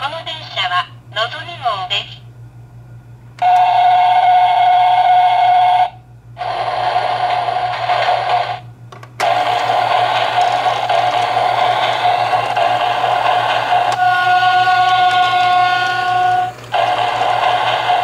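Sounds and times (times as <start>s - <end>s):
electronic running-train sound: 3.4s - 18.0s.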